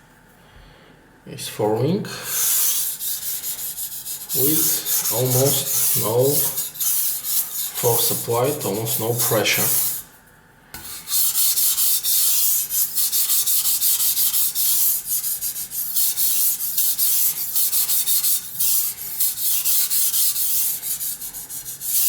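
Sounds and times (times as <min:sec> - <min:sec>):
blade scraping on wet whetstone: 0:02.3 - 0:10.1, 0:10.8 - 0:22.0.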